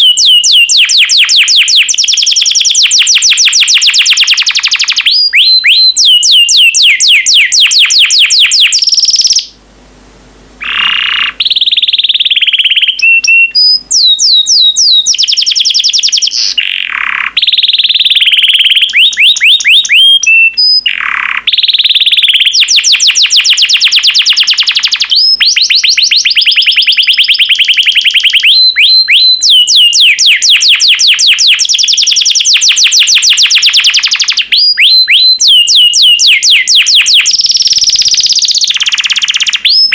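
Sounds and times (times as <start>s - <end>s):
canary singing rapid trills: 0.0s - 9.6s, 10.6s - 39.9s.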